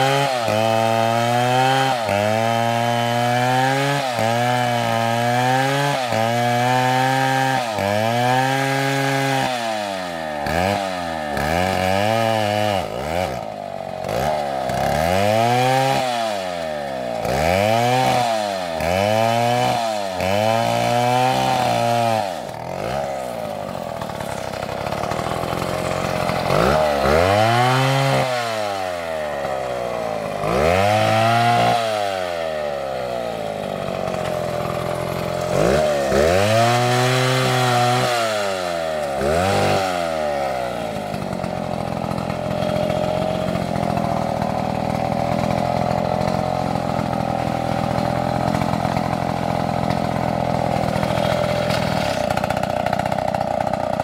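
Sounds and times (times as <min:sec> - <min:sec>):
chainsaw revving cutting log: 0:00.0 - 0:54.0.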